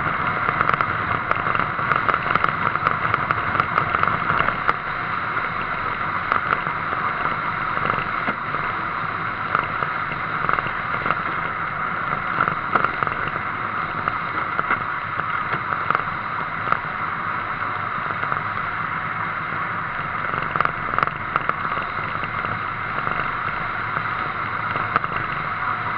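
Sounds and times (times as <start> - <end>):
tyre and wind noise: 0.0 - 25.9.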